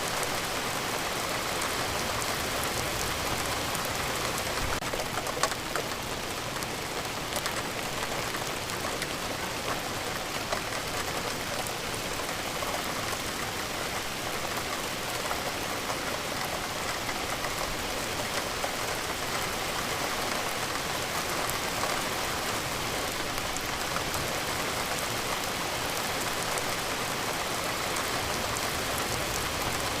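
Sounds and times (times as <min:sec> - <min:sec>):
steady rain pattering: 0:00.0 - 0:30.0.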